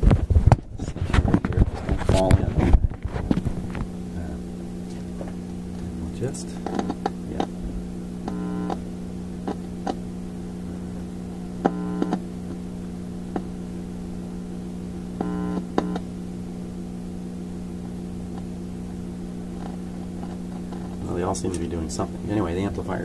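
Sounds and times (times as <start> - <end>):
amplifier humming: 0.0 - 23.0
loud amplifier buzz: 0.0 - 23.0.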